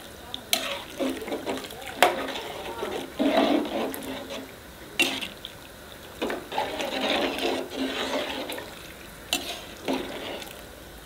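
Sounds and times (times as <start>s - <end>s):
liquid sloshing in a pot: 0.6s - 10.8s.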